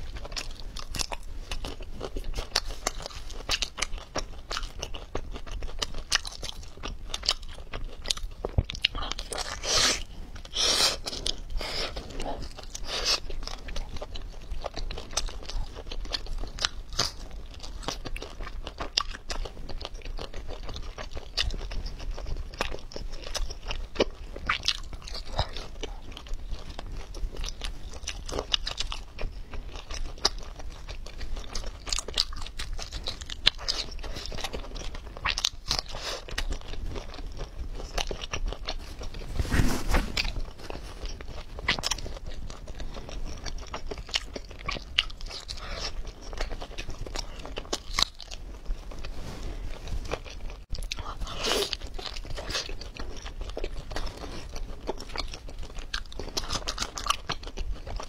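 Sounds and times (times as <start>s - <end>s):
chewing octopus: 0.0s - 58.0s.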